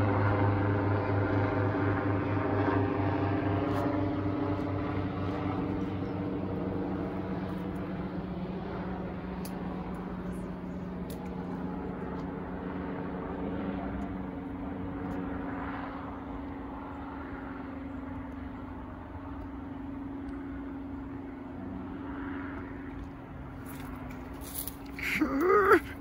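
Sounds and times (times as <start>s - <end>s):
distant engine drone: 0.0s - 26.0s.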